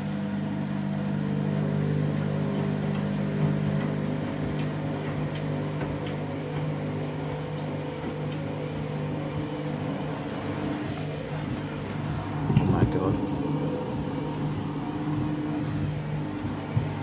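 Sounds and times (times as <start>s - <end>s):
washing machine motor hum: 0.0s - 17.0s
washing machine knocking: 1.1s - 17.0s.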